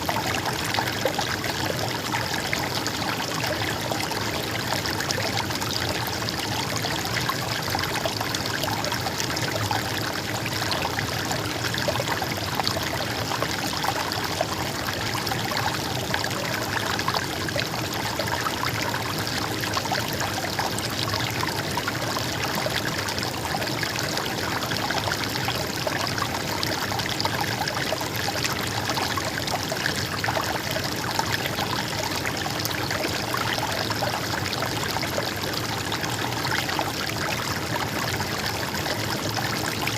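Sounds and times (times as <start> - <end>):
stream water gurgling: 0.0 - 39.9.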